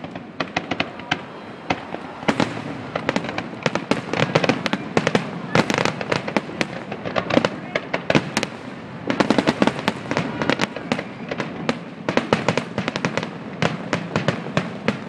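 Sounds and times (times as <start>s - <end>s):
fireworks bursts and crackling: 0.0s - 15.0s.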